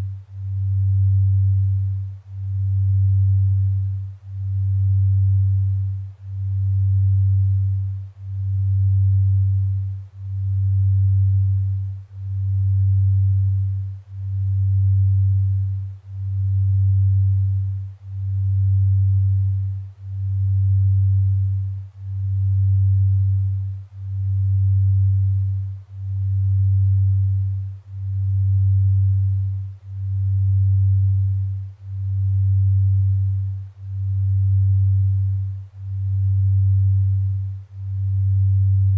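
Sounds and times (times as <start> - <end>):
pulsing low electronic sine tone: 0.0 - 38.9.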